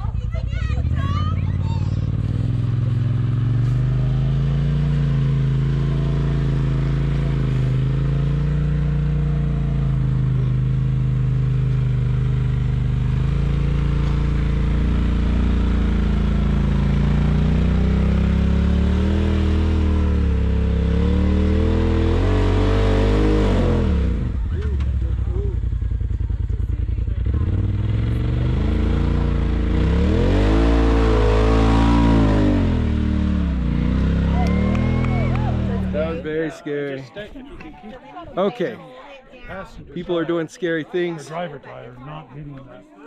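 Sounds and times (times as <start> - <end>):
engine pulling hard under load: 0.0 - 36.6.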